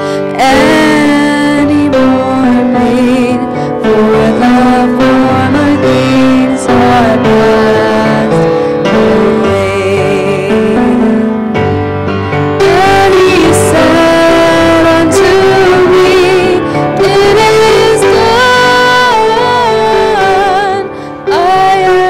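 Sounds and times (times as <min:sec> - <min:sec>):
woman singing a hymn: 0:00.0 - 0:11.5, 0:12.6 - 0:22.0
grand piano: 0:00.0 - 0:22.0
people singing a hymn: 0:00.5 - 0:11.1, 0:12.6 - 0:20.9.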